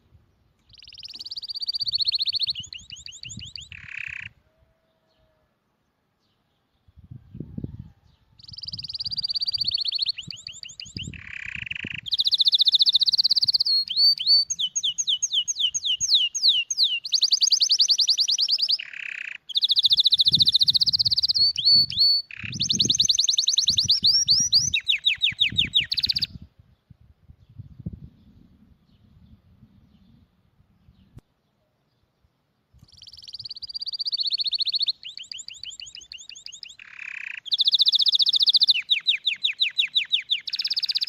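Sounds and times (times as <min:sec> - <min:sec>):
songbird singing trills: 0:00.3 - 0:05.4, 0:06.2 - 0:41.0.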